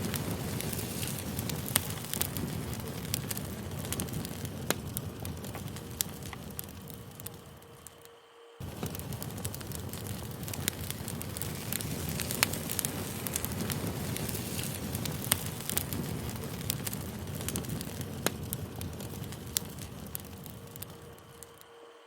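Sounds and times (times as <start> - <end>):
campfire crackling and popping: 0.0 - 21.8.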